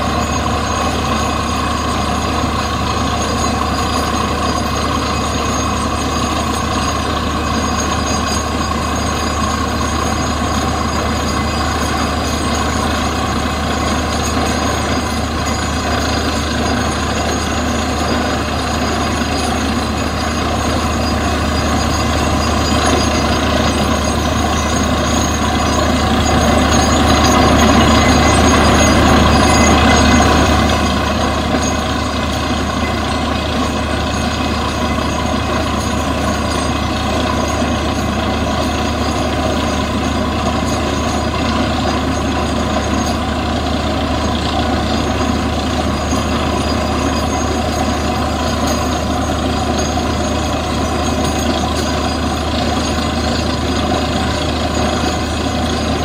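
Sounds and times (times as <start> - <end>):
drilling rig running: 0.0 - 56.0.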